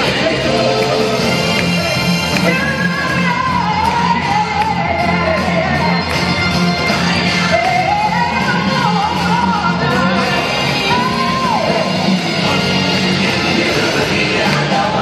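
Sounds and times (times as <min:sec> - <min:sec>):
gospel band playing: 0:00.0 - 0:15.0.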